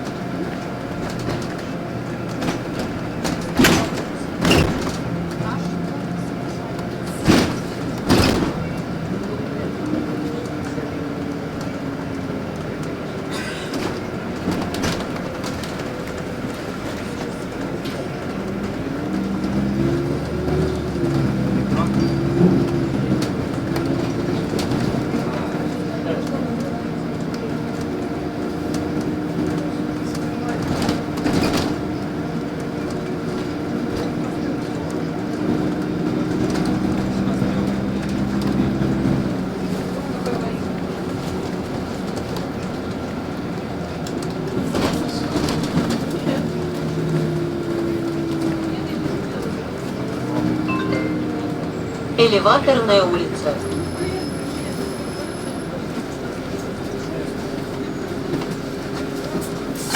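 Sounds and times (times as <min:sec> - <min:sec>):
bus engine and drivetrain hum: 0:00.0 - 0:59.9
road noise: 0:00.0 - 0:59.9.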